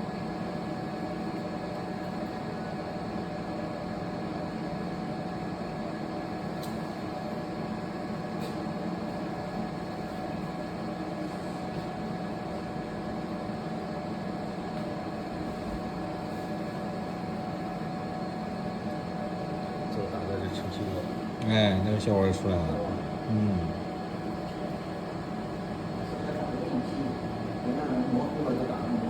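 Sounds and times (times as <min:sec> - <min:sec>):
laser engraving machine whirring: 0:00.0 - 0:29.0.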